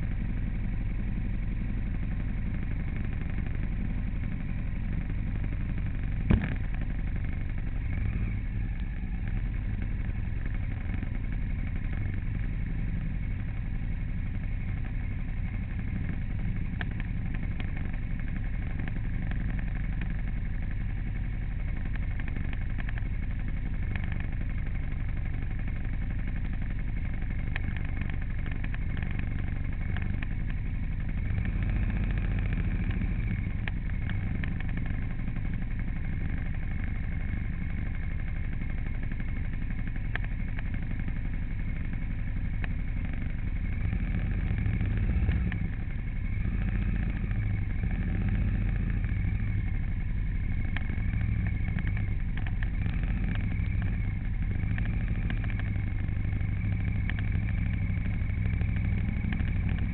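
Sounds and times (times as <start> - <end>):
road rumble: 0.0 - 59.9
vehicle engine running: 0.0 - 59.9.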